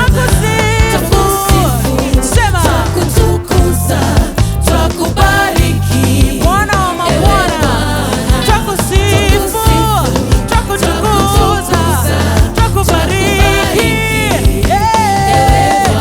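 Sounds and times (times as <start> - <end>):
band with heavy bass and beat: 0.0 - 16.0
person singing with vibrato: 0.0 - 16.0.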